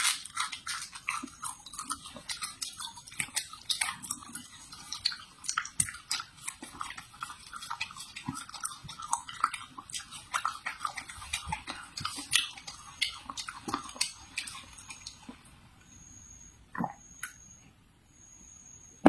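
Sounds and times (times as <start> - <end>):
chewing crisp raw vegetables: 0.0 - 15.6.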